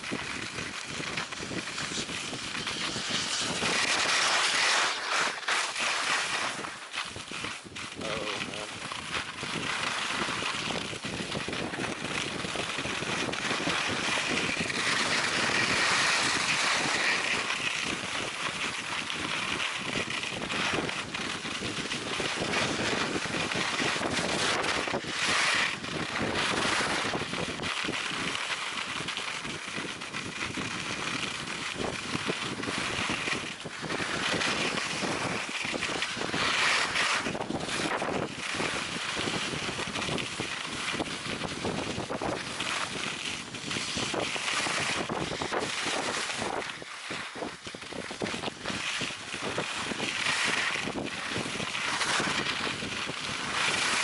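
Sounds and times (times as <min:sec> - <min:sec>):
skis scraping over snow: 0:00.0 - 0:54.0
wind rushing over microphone: 0:00.0 - 0:54.0.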